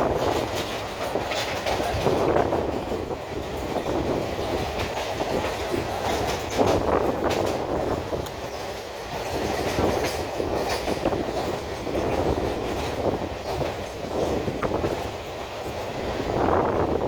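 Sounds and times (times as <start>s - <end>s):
train carriages rumbling: 0.0s - 17.0s
wheels clicking over rail joints: 0.0s - 17.0s.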